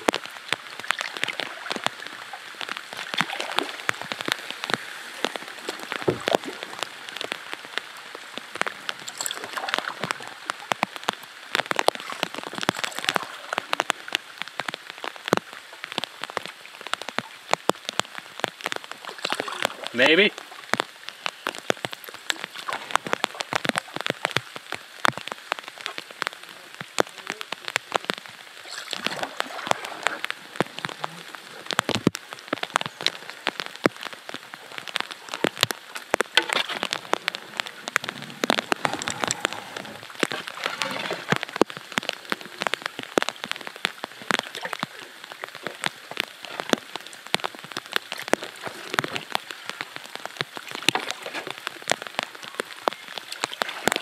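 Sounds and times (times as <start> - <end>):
rain falling on water: 0.0 - 54.0.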